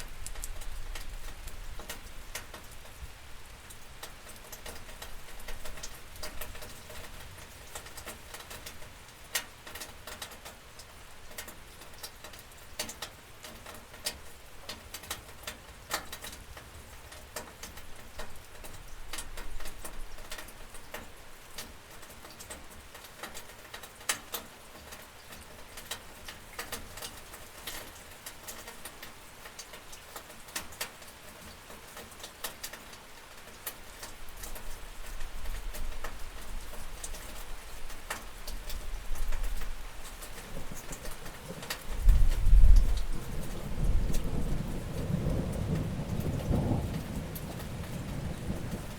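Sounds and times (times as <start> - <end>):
rain drops ticking on glass: 0.0 - 48.9.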